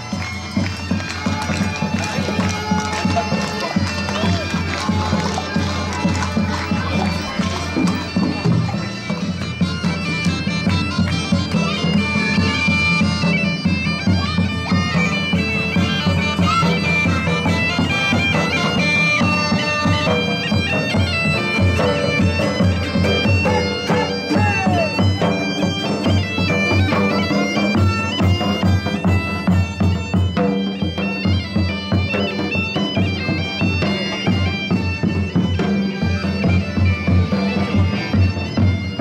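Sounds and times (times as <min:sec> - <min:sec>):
bagpipes playing a tune: 0:00.0 - 0:39.0.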